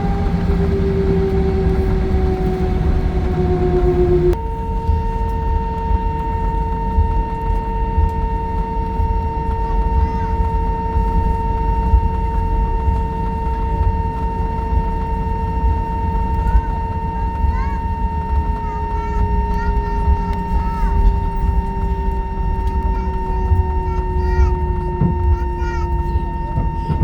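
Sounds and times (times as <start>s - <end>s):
aircraft cabin rumble: 0.0s - 27.0s
whining tones: 0.0s - 27.0s.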